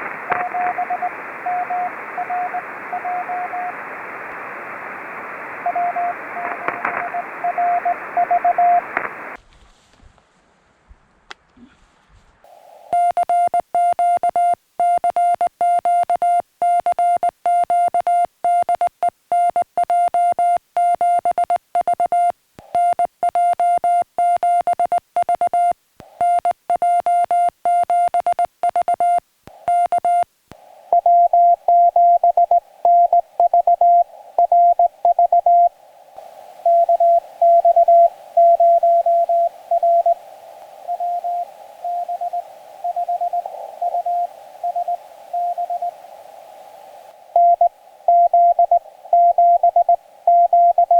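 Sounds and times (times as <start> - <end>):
receiver band noise hiss: 0.0 - 50.9
morse code tone: 0.3 - 3.8, 5.6 - 8.9, 12.9 - 30.3, 30.9 - 35.8, 36.6 - 40.2, 40.8 - 46.0, 47.3 - 50.9.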